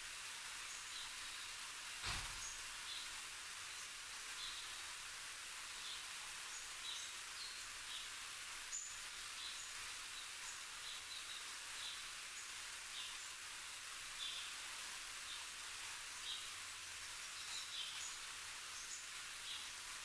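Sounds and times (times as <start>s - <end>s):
steady outdoor hiss: 0.0s - 20.0s
small birds chirping: 0.6s - 4.8s, 5.7s - 13.4s, 14.1s - 14.6s, 15.2s - 19.8s.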